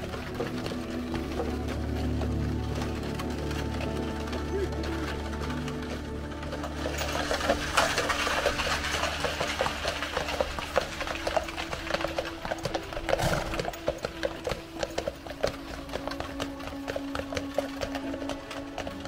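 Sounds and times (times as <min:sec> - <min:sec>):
horse hooves clip-clopping: 0:00.0 - 0:19.0
wagon wheels rolling: 0:00.0 - 0:19.0.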